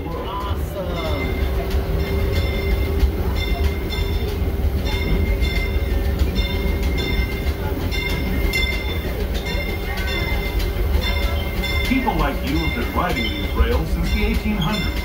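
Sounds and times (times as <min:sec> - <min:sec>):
train car rolling on track: 0:00.0 - 0:15.0.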